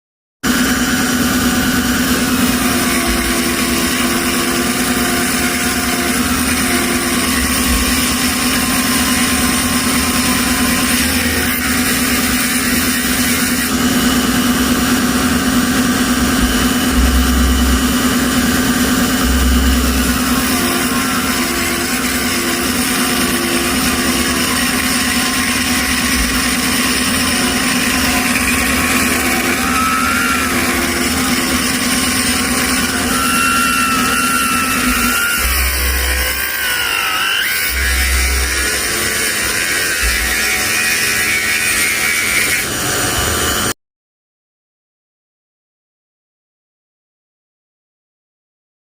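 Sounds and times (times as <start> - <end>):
lathe motor humming: 0.5 - 43.7.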